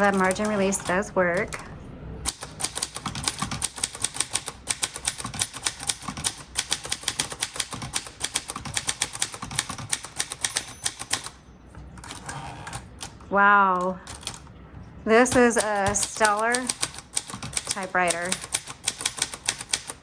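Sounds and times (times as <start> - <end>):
typewriter typing: 0.0 - 11.4, 12.0 - 14.5, 15.2 - 20.0.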